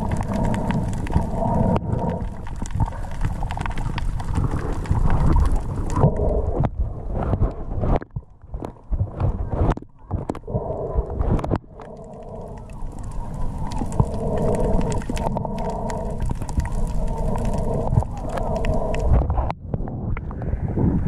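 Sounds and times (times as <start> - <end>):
boat engine drone underwater: 0.0 - 21.0
low rumble: 0.0 - 21.0.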